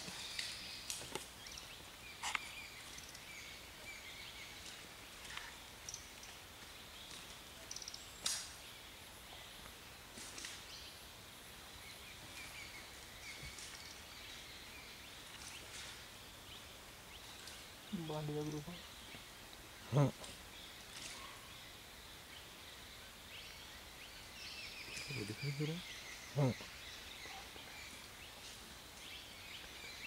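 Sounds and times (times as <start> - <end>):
forest ambience: 0.0 - 30.0.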